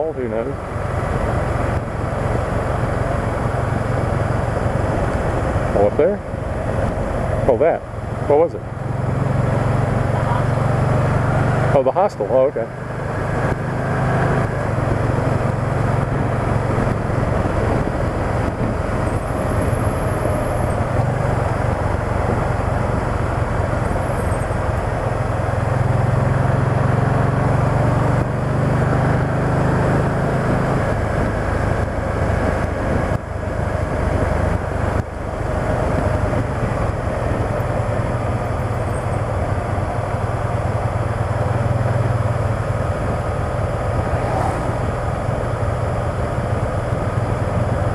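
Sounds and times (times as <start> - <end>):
wind noise on microphone: 0.0 - 7.5, 12.9 - 47.9
motorcycle engine running: 0.0 - 47.9.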